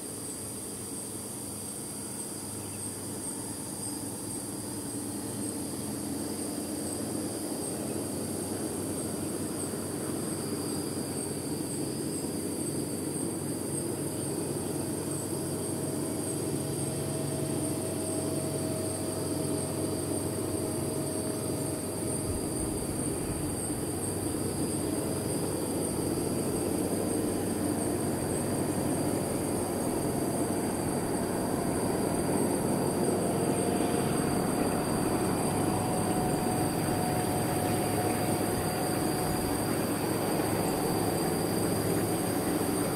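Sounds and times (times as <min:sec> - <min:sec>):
diesel locomotive engine rumble: 0:04.6 - 0:42.9.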